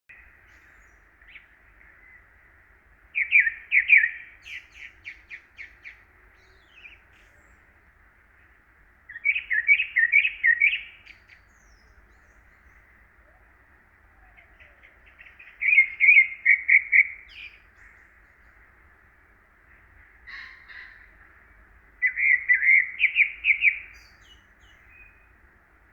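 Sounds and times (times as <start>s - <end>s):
faint steady hiss: 0.1s - 25.9s
songbird chirping: 0.1s - 25.9s.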